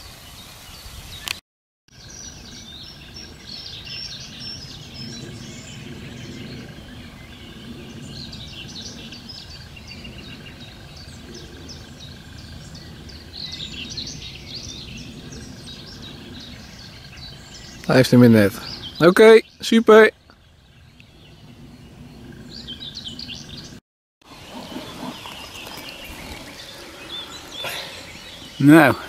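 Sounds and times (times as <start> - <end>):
birds singing and chirping: 0.0 - 29.0.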